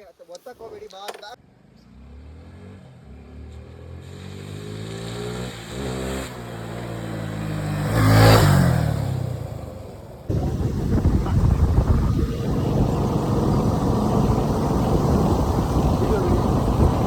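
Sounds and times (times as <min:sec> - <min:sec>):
motorcycle engine passing: 0:01.5 - 0:17.0.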